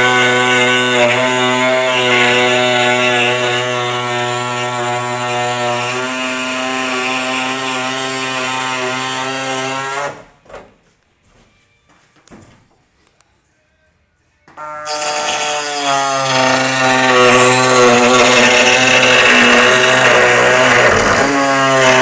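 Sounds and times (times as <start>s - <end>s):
power tool whining: 0.0s - 10.2s, 14.6s - 22.0s.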